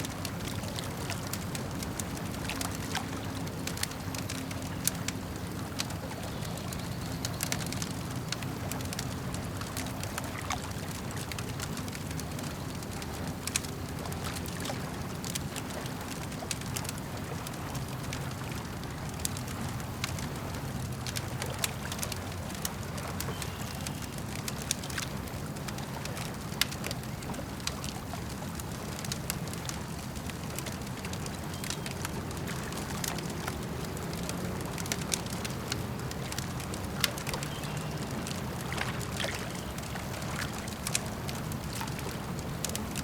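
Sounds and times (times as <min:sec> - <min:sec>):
campfire crackling and popping: 0:00.0 - 0:43.0
lake water lapping: 0:00.0 - 0:43.0.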